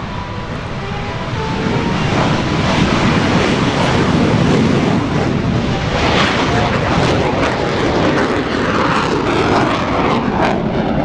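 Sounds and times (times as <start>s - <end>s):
jet engines with afterburners: 0.0s - 11.0s.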